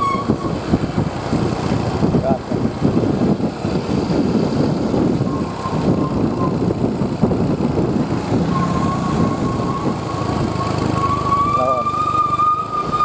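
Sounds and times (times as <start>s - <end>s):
diesel bus engine rumble: 0.0s - 13.0s
road noise: 0.0s - 13.0s.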